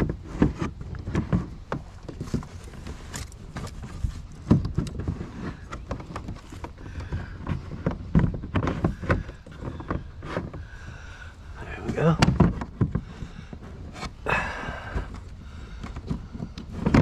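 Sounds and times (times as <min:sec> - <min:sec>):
kayak seat knocking and rattling: 0:00.0 - 0:17.0.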